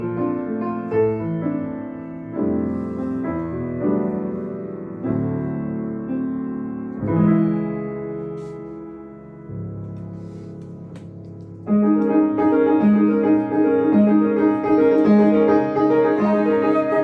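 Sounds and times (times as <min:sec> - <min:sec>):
jazz piano: 0:00.0 - 0:17.0.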